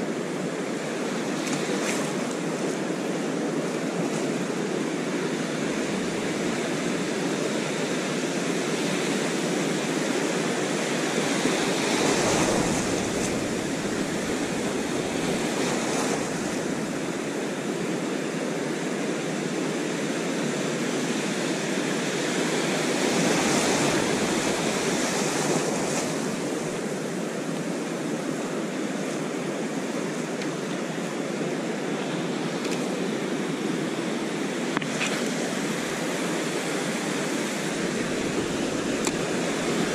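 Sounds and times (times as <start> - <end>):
ocean surf washing up beach: 0.0 - 39.9.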